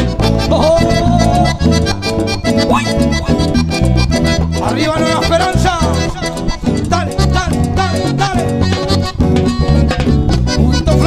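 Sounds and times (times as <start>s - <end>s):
accordion melody: 0.0s - 11.0s
bass line: 0.0s - 11.0s
percussion: 0.0s - 11.0s.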